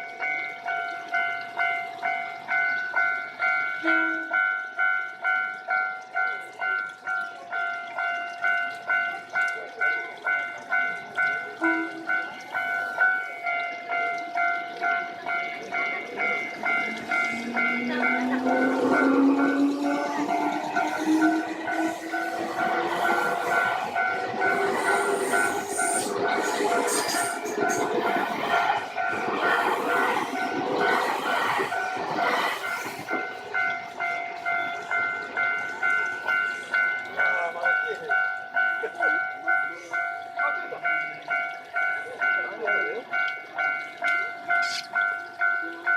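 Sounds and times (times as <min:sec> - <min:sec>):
level crossing warning bell ringing: 0:00.0 - 0:45.9
train passing: 0:00.0 - 0:45.9.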